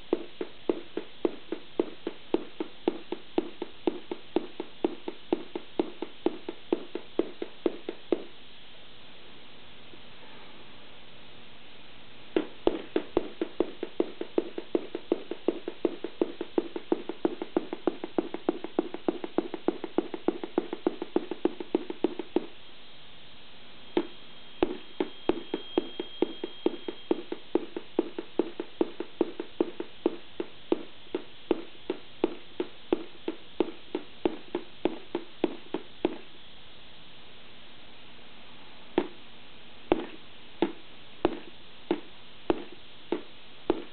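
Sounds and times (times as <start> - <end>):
rapid electronic pops: 0.0 - 8.4, 12.3 - 22.6, 23.9 - 36.3, 39.0 - 39.2, 39.9 - 43.9
low electronic hum: 0.0 - 43.9.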